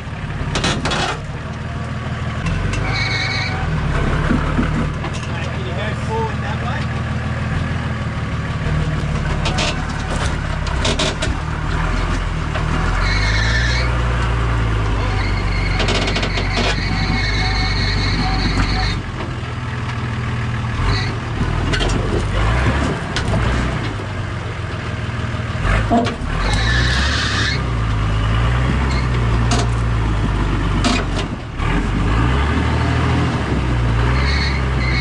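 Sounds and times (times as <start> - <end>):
engine revving under load: 0.0 - 35.0.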